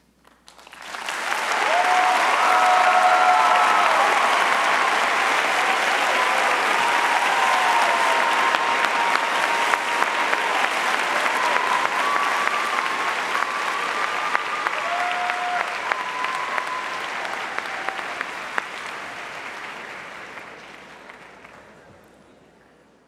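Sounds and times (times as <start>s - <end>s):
audience applauding: 0.3s - 21.9s.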